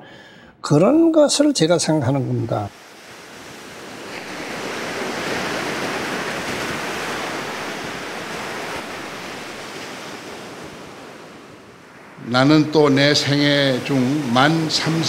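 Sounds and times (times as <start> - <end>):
soft rushing noise: 2.7 - 15.0.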